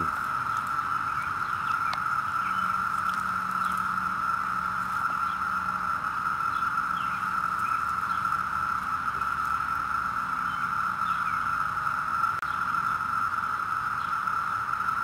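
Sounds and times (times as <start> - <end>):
cicadas chorus: 0.0 - 15.0.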